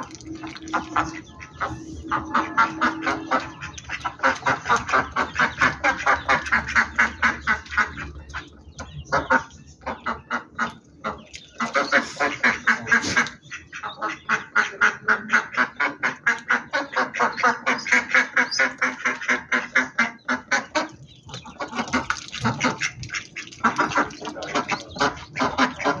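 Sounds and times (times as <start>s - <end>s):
duck quacking: 0.0s - 26.0s.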